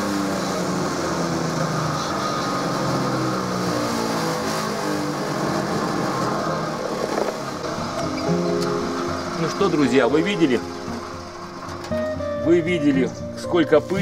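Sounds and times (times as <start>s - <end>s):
electric feed grinder shredding hay: 0.0s - 13.1s.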